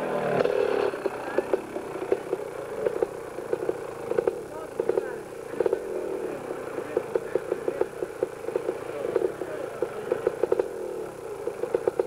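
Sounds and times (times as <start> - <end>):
motorcycle engine idling unevenly: 0.0 - 12.0.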